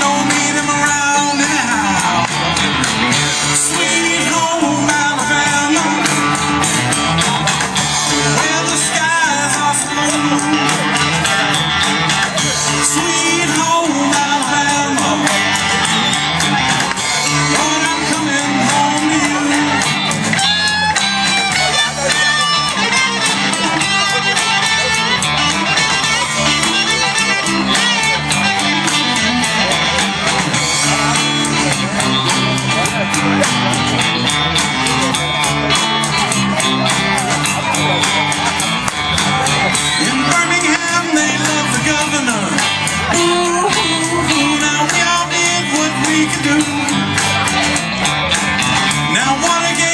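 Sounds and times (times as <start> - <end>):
bass notes: 0.0 - 49.9
drum beat: 0.0 - 49.9
electric guitar: 0.0 - 49.9
live rock band playing: 0.0 - 49.9.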